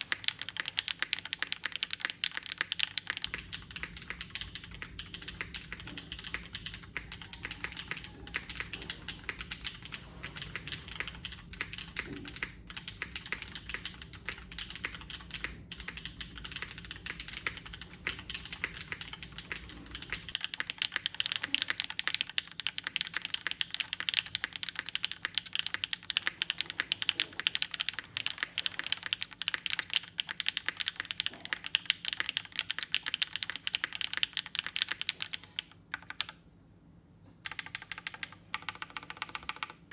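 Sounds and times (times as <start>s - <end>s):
fast typing on mechanical keyboard: 0.0s - 36.4s, 37.4s - 39.9s
low background hum: 0.0s - 39.9s.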